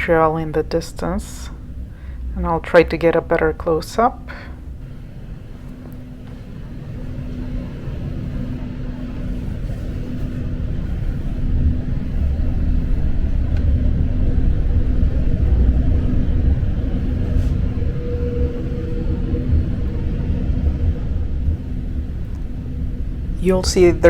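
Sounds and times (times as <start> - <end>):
faint steady hum: 0.0 - 24.0
train wheels rumbling: 0.0 - 24.0.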